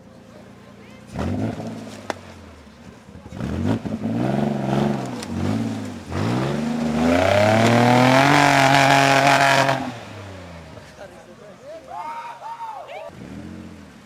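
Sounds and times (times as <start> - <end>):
truck engine revving: 0.0 - 11.3, 13.1 - 14.0.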